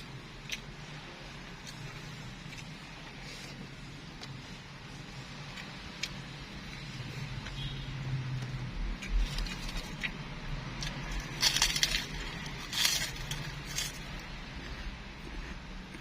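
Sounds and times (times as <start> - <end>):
food crunching: 0.0 - 4.4, 5.4 - 7.6, 8.3 - 16.0.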